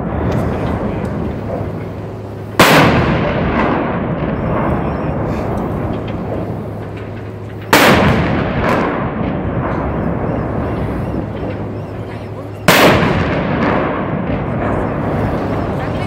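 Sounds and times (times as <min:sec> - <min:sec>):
cannon bangs with echo: 0:00.0 - 0:16.0.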